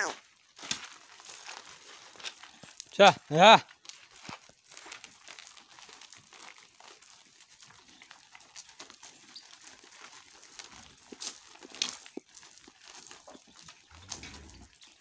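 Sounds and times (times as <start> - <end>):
cattle hooves clicking on dirt: 0.0 - 15.0.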